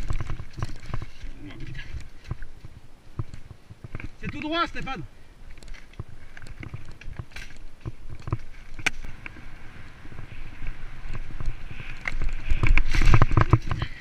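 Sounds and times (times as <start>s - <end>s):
bike rattling: 0.0s - 14.0s
tyres on dirt: 0.0s - 14.0s.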